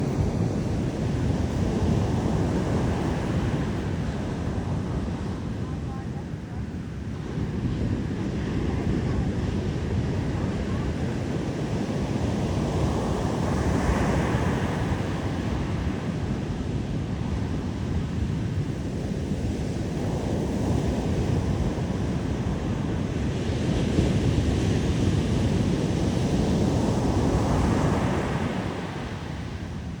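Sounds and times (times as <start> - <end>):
ocean waves surging onto beach: 0.0 - 30.0
wind buffeting microphone: 0.0 - 30.0.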